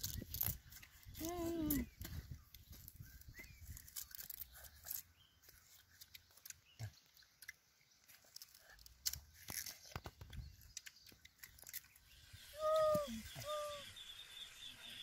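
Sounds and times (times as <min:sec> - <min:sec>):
sugarcane being chewed: 0:00.0 - 0:12.1.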